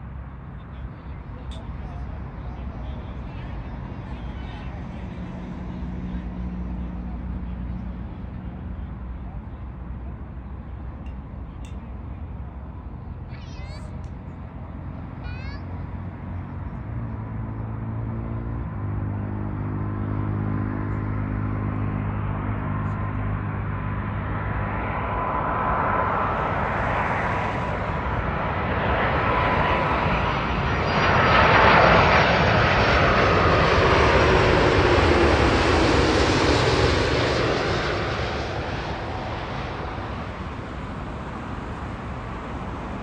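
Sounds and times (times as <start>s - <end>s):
jet airliner passing overhead: 0.0s - 43.0s.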